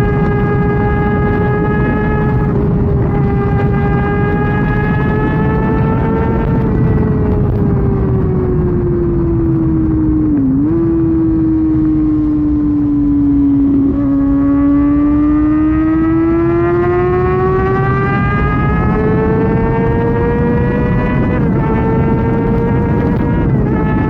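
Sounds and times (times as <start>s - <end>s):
heavy wind rush: 0.0s - 24.0s
motorcycle engine at speed: 0.0s - 24.0s.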